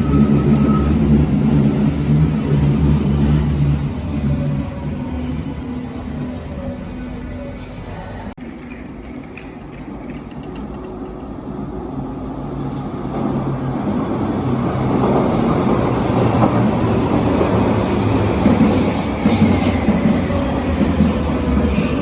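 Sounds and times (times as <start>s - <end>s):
subway train running past: 0.0s - 22.0s.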